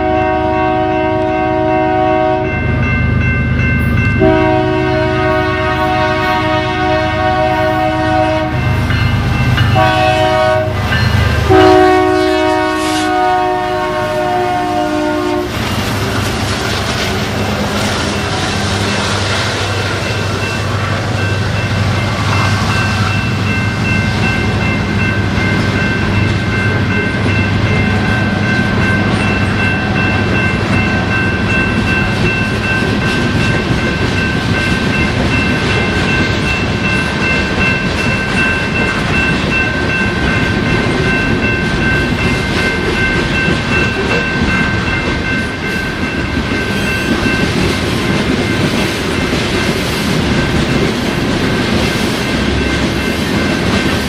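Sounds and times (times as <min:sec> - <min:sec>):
rail cars clickety-clack: 0:00.0 - 0:54.0
deep locomotive rumble: 0:01.5 - 0:54.0.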